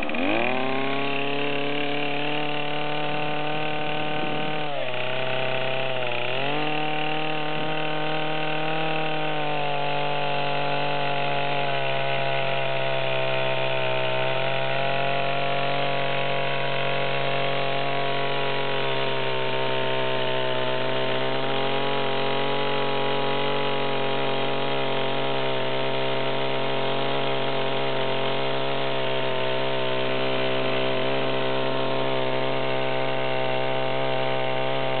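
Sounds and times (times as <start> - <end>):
chainsaw cutting a log: 0.0 - 35.0.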